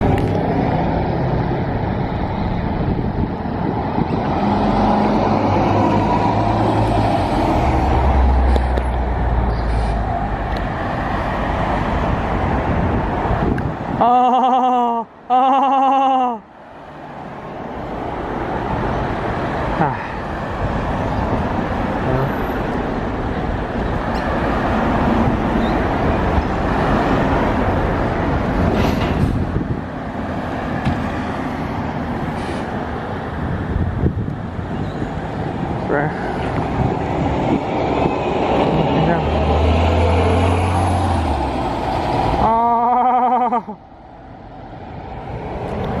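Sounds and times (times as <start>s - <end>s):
bus engine and tyre noise: 0.0s - 46.0s.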